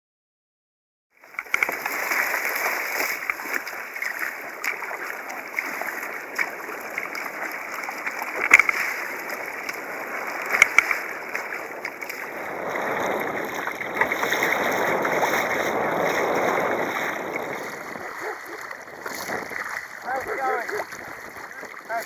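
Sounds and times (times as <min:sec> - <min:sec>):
rushing water: 0:01.2 - 0:22.0
sharp splashes or knocks: 0:01.2 - 0:22.0
water splashing around a kayak: 0:01.2 - 0:22.0.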